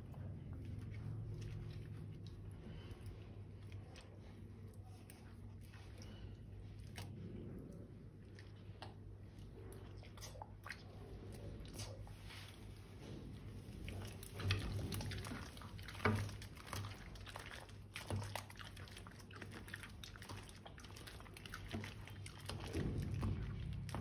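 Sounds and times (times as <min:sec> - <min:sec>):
low steady hum: 0:00.0 - 0:24.0
slime squishing: 0:00.0 - 0:24.0.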